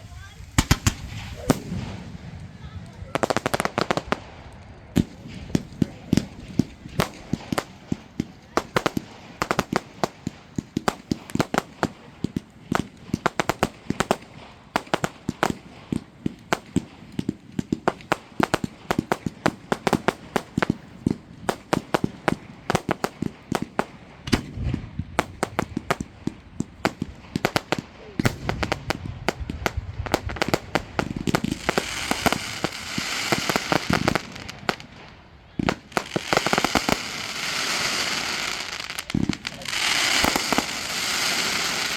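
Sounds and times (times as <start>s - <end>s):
fireworks banging and crackling: 0.0s - 41.9s.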